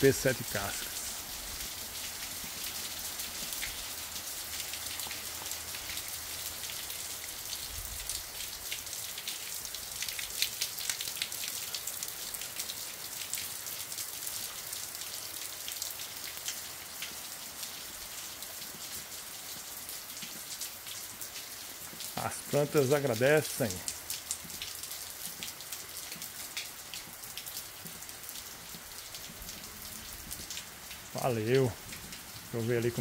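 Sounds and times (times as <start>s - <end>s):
rain splashing on paving and leaves: 0.0s - 33.0s.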